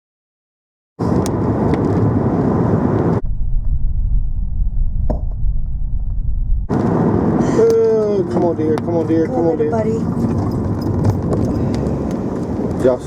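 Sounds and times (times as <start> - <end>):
car road and wind rumble: 1.0 - 13.0.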